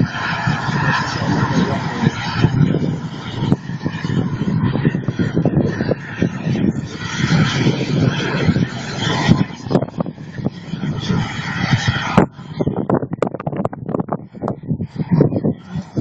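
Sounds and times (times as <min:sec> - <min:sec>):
model jet turbine engine rushing: 0:00.0 - 0:16.0.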